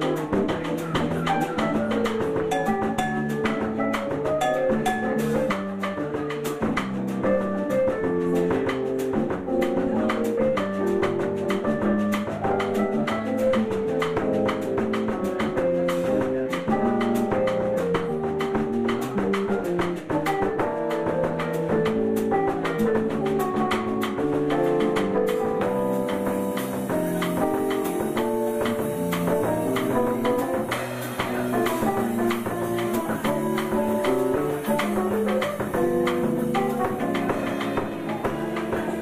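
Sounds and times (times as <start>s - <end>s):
electronic keyboard chords and melody: 0.0s - 39.0s
steady drum beat: 0.0s - 39.0s.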